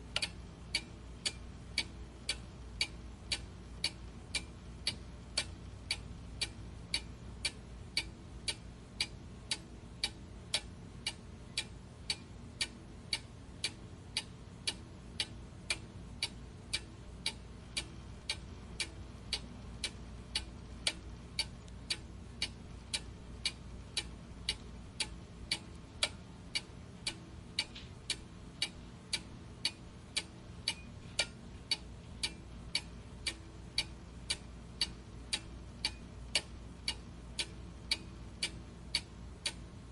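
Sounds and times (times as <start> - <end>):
steady sharp ticking: 0.0 - 39.9.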